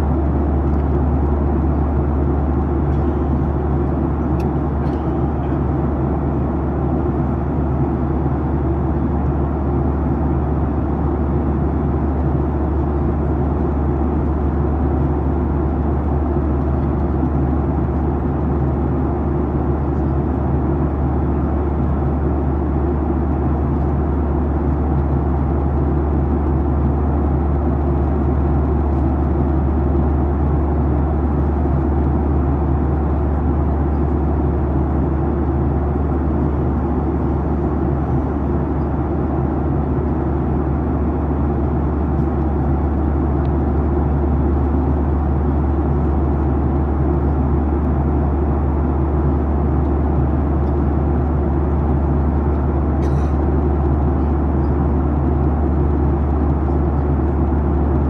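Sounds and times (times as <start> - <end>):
cabin airflow rush: 0.0 - 58.0
low jet engine hum: 0.0 - 58.0.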